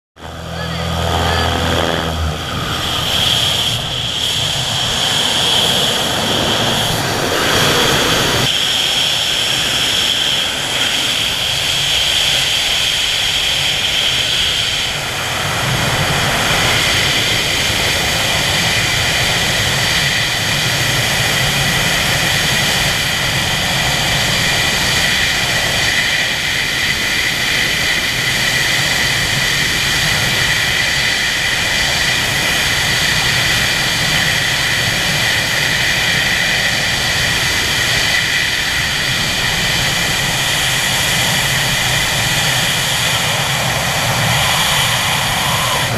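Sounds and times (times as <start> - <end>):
rushing wind on microphone: 0.2 - 45.9
wind whistle: 0.2 - 45.9.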